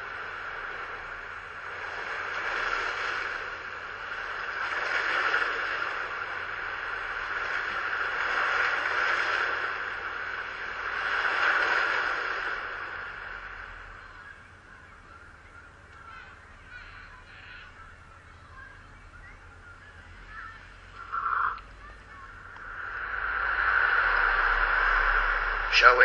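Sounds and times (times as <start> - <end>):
waves washing up shingle beach: 0.0 - 17.4, 20.0 - 26.0.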